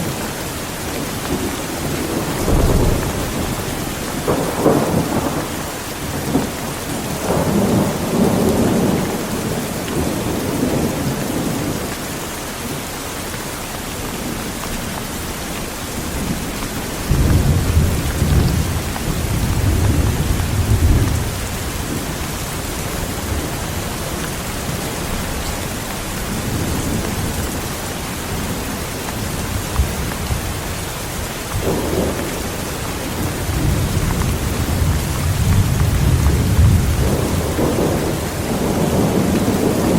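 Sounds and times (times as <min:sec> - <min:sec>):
heavy rain: 0:00.0 - 0:39.9
rolling thunder: 0:01.3 - 0:11.9, 0:15.8 - 0:27.6, 0:29.3 - 0:39.9.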